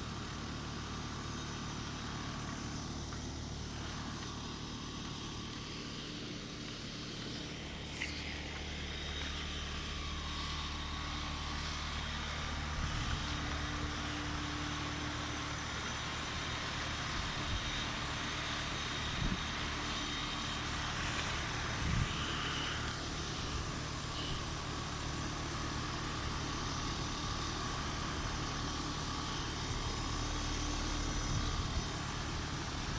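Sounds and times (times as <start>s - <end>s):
fan noise: 0.0s - 32.9s
heat pump compressor hum: 0.0s - 32.9s.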